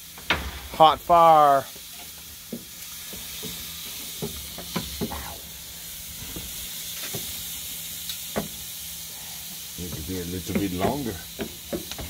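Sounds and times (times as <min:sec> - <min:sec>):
steaks sizzling on a grill: 0:00.0 - 0:12.0.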